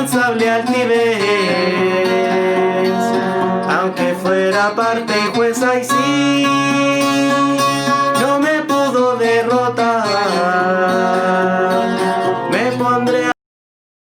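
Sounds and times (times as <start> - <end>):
guitar plucked and strummed: 0.0 - 13.4
person singing: 0.0 - 13.4.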